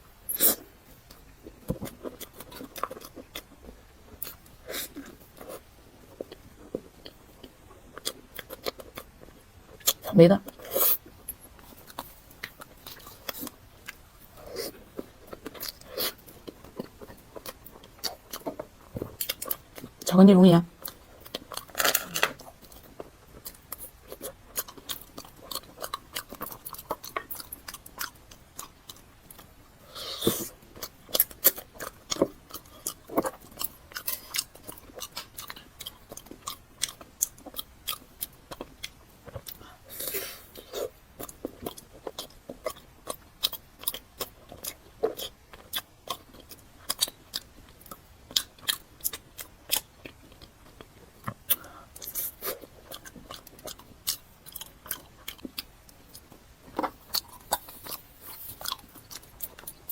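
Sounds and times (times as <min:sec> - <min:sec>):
person chewing and smacking: 0:00.4 - 0:20.1, 0:20.7 - 0:59.9.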